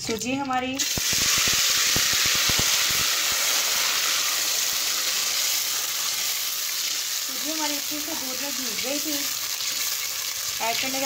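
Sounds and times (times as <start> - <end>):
batter sizzling in hot syrup: 0.0 - 11.0.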